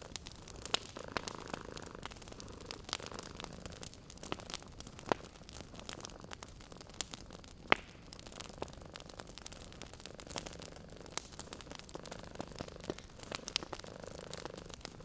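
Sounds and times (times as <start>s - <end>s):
fire popping and snapping: 0.0s - 15.0s
wood fire hissing: 0.0s - 15.0s.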